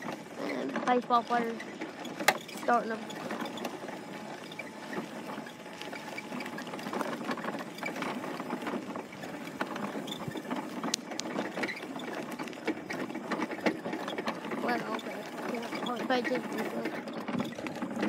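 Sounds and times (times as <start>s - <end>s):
vehicle rattling over bumpy ground: 0.0s - 18.0s.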